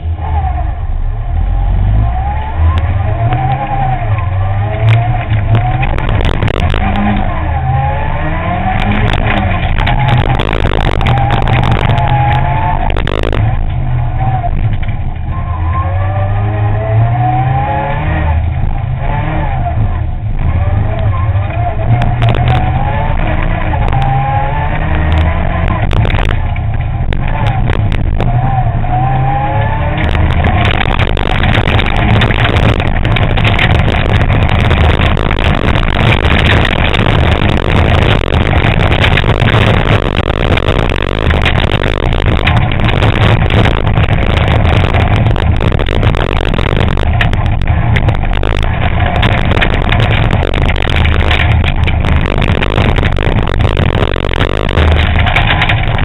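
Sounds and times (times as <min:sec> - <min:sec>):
rally car engine revving: 0:00.0 - 0:56.0
gravel striking car: 0:01.9 - 0:56.0
dense clattering and rattling: 0:04.6 - 0:07.3, 0:08.4 - 0:15.3, 0:20.3 - 0:56.0.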